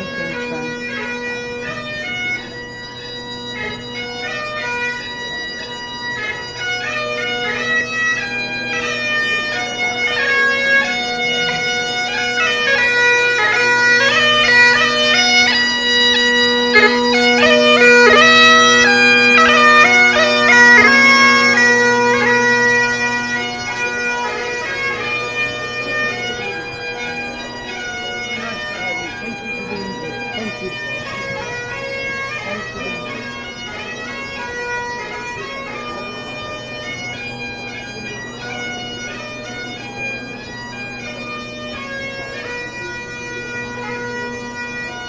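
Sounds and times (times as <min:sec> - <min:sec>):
bagpipe playing a tune: 0:00.0 - 0:45.0.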